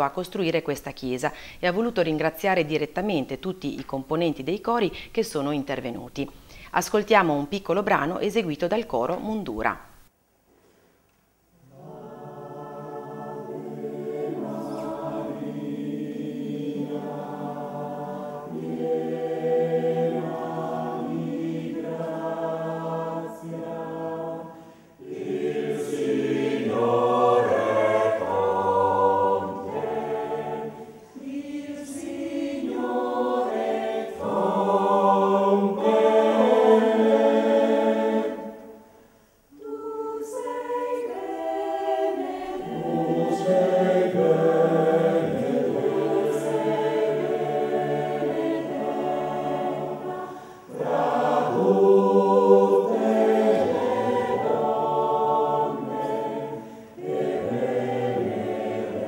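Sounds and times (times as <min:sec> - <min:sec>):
mixed choir singing a cappella: 0:11.6 - 0:59.0.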